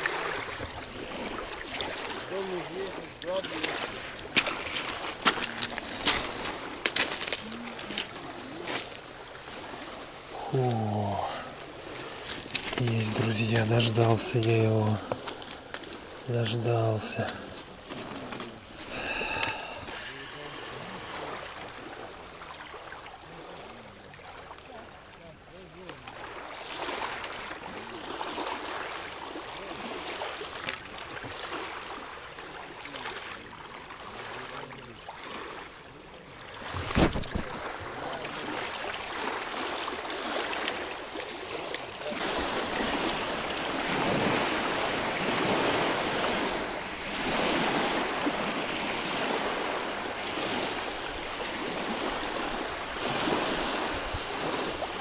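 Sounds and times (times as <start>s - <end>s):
rushing water and wind: 0.0s - 55.0s.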